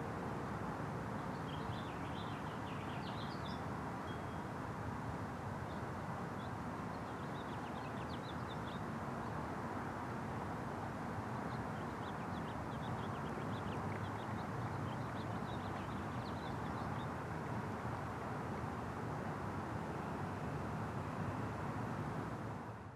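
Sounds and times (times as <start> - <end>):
outdoor background noise: 0.0 - 22.9.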